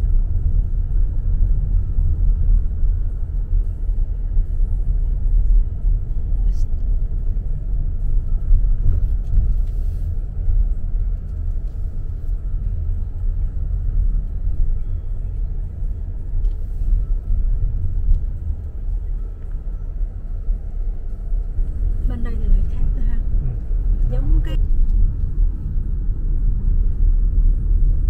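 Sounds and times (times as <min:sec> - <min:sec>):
car interior road rumble: 0:00.0 - 0:28.0.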